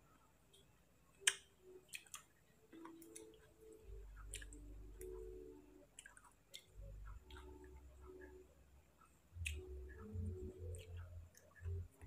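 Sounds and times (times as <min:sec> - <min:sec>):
mouth clicks and chewing: 0:00.5 - 0:08.4, 0:09.4 - 0:12.0.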